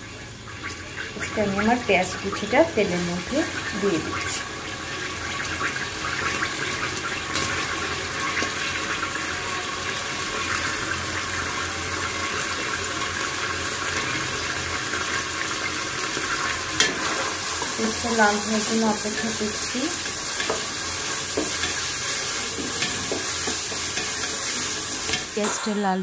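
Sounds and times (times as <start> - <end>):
onions sizzling in hot oil: 0.0 - 25.6.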